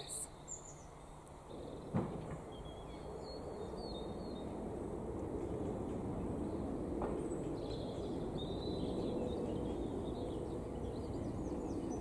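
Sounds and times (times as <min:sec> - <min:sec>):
small birds chirping: 0:00.0 - 0:04.6, 0:06.4 - 0:12.0
low outdoor rumble: 0:00.0 - 0:12.0.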